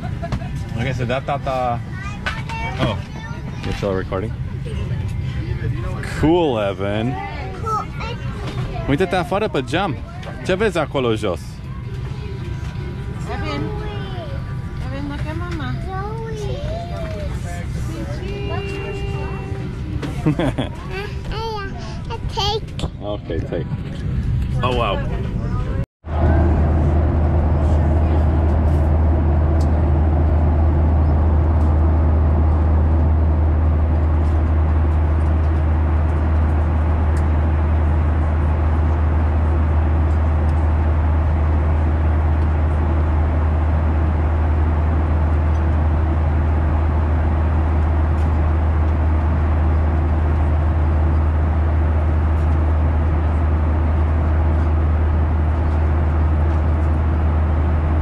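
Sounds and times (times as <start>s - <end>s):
airliner cabin drone: 0.0s - 58.0s.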